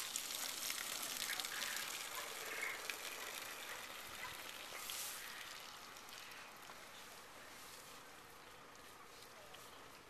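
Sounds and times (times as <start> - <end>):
cow urinating onto mud: 0.0 - 10.0.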